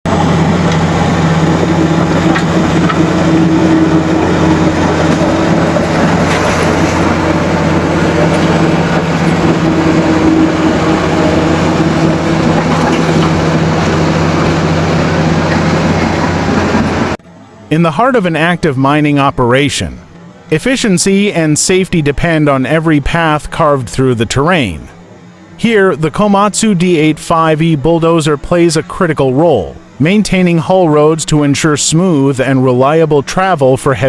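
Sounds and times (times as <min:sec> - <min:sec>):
bulldozer diesel engine running: 0:00.0 - 0:34.0
constant mechanical noise: 0:00.1 - 0:34.0.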